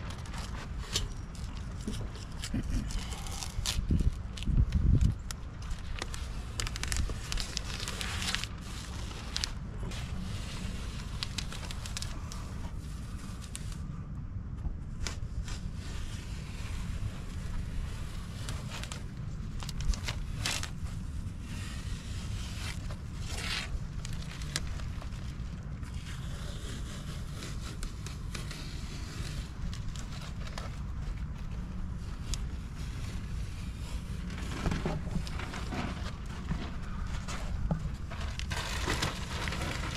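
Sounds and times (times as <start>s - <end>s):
tape peeling and crackling: 0.0s - 14.0s, 14.9s - 39.9s.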